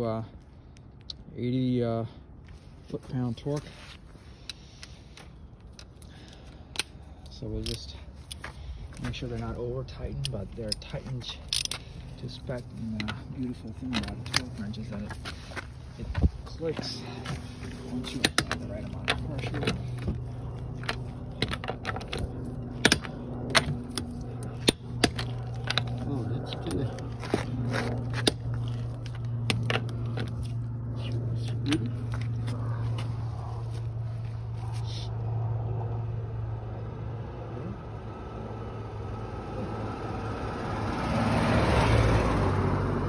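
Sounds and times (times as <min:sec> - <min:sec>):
low steady hum: 0:00.0 - 0:40.8.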